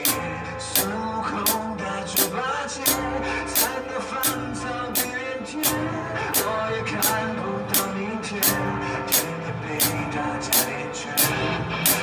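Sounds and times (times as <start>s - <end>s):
acoustic drum kit playing: 0.0s - 12.0s
recorded backing music: 0.0s - 12.0s.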